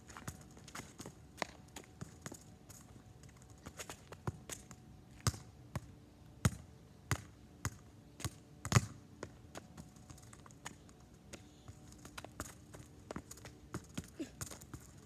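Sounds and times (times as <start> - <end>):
football taps and thuds on asphalt: 0.0 - 15.0.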